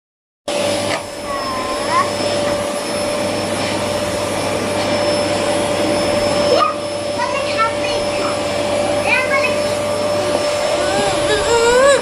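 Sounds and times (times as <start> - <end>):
vacuum cleaner running: 0.5 - 12.0.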